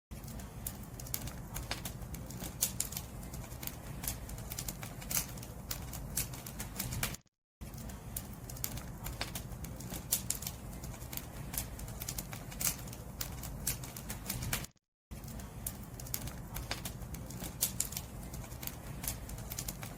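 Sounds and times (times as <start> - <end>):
bonfire crackling and popping: 0.1 - 19.9.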